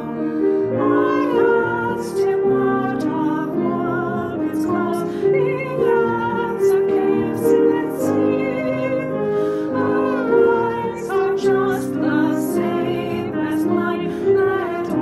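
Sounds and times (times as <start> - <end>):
women singing in harmony: 0.0 - 15.0.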